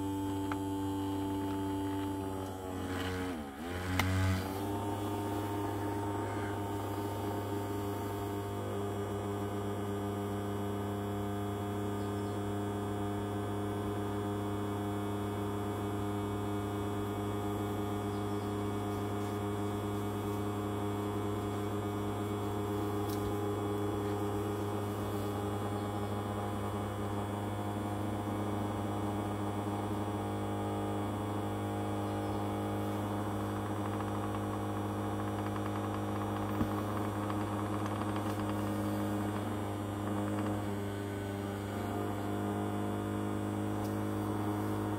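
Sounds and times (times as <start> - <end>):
ultrasonic cleaner humming: 0.0 - 44.9.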